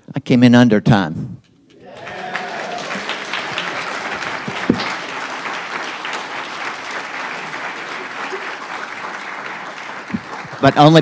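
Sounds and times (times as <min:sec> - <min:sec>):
audience applauding: 0:01.8 - 0:11.0.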